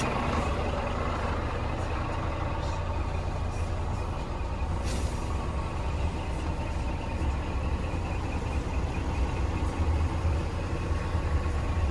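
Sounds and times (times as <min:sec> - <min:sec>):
truck diesel engine idling: 0:00.0 - 0:11.9.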